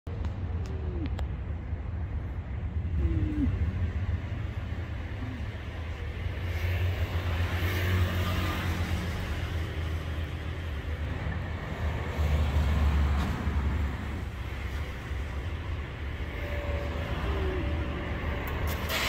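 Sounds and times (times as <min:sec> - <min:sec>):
vehicle engines rumbling past: 0:00.1 - 0:19.0.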